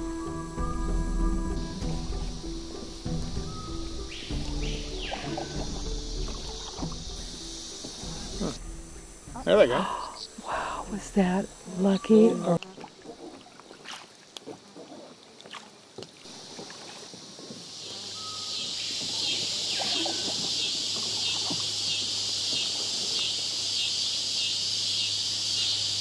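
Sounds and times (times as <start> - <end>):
buzzing insect chorus: 0.0 - 26.0.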